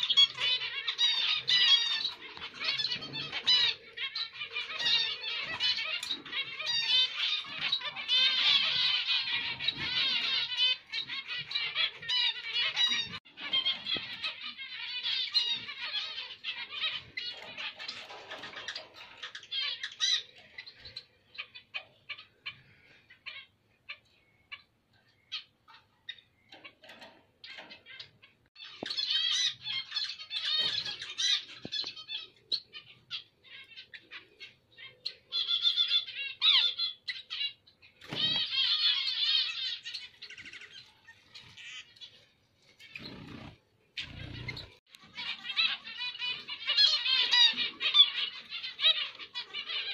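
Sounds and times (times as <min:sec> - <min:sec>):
finches chirping: 0:00.0 - 0:49.9
rapid warbling birdsong: 0:00.0 - 0:49.9.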